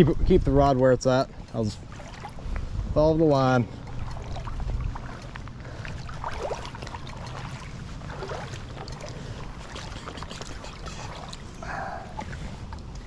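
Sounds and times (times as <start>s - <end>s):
water sloshing around legs: 0.6s - 13.0s.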